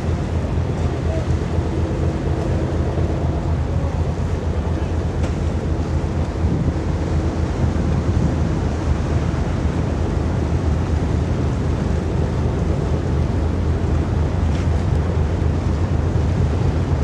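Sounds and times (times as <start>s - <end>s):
ship engines rumbling: 0.0s - 17.0s
wind buffeting microphone: 0.0s - 17.0s.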